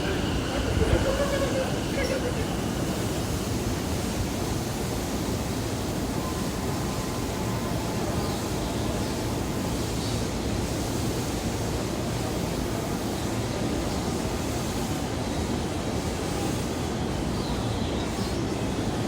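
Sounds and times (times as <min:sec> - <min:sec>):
railway station platform roar: 0:00.0 - 0:19.0.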